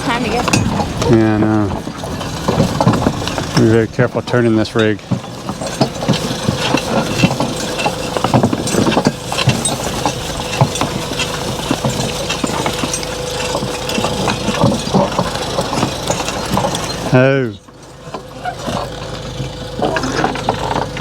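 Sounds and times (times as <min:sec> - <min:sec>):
horse-drawn wagon rattling: 0:00.0 - 0:21.0
steady rumble: 0:00.0 - 0:21.0.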